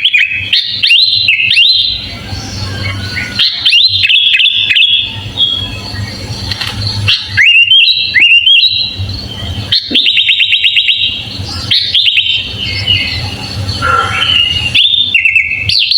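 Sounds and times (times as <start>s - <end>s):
bird singing whistles and trills: 0.0s - 15.9s
low steady hum: 0.0s - 15.9s.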